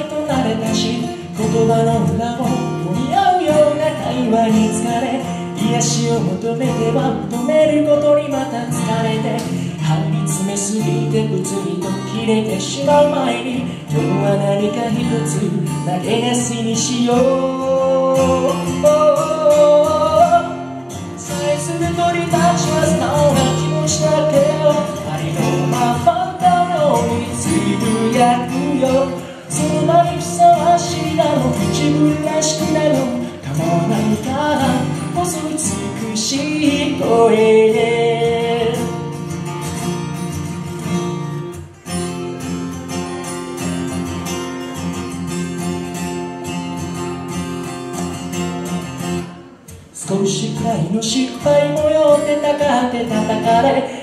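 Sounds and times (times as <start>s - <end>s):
man singing into a microphone: 0.0s - 39.0s, 49.4s - 54.0s
acoustic guitar: 0.0s - 54.0s.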